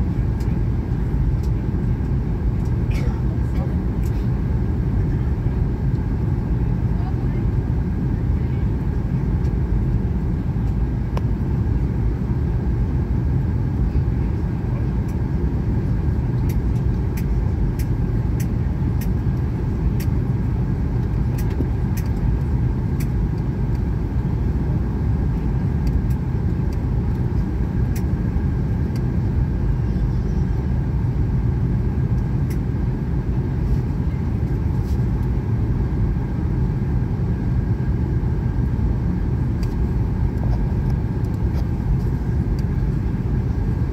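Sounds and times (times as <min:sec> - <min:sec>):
faint steady whine: 0:00.0 - 0:43.9
jet engines and airflow rush: 0:00.0 - 0:43.9.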